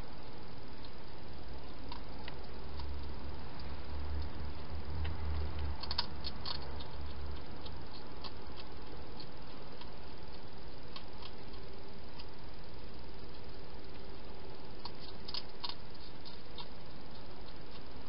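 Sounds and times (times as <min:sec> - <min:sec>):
hedgehog crunching food: 0:00.0 - 0:18.0
steady hiss: 0:00.0 - 0:18.0.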